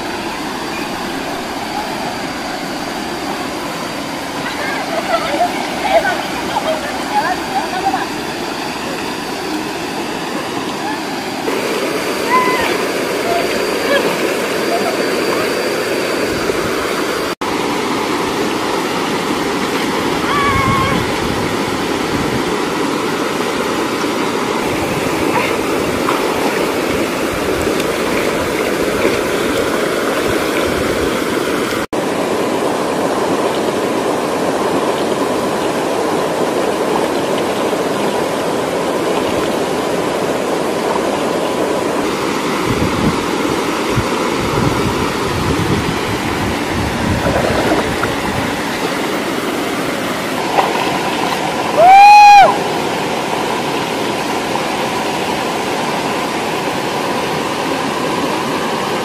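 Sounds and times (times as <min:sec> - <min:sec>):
water splashing: 0:00.0 - 0:31.9, 0:33.2 - 0:59.0
waterfall and stream rushing: 0:00.0 - 0:59.0.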